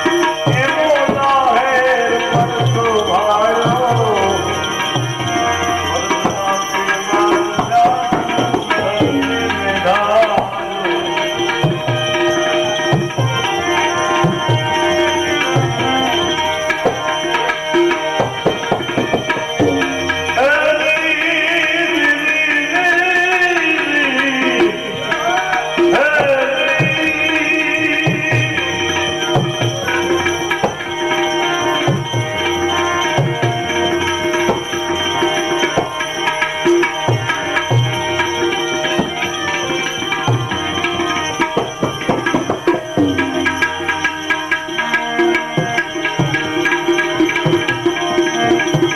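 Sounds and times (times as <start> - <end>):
tabla rhythm: 0.0 - 48.9.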